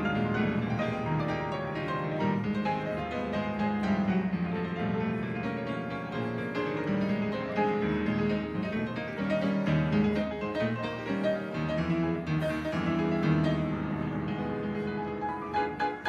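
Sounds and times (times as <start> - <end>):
instrumental piano music: 0.0 - 16.0.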